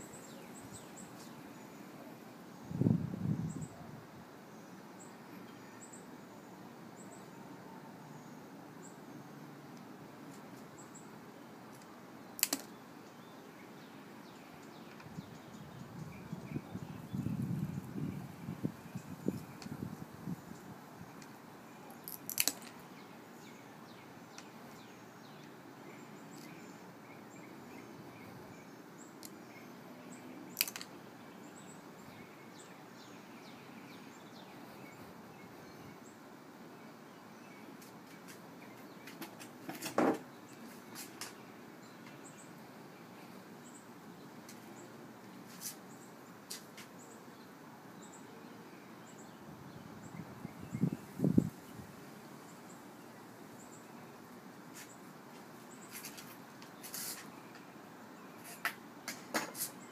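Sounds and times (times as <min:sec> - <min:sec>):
outdoor hiss: 0:00.0 - 0:59.9.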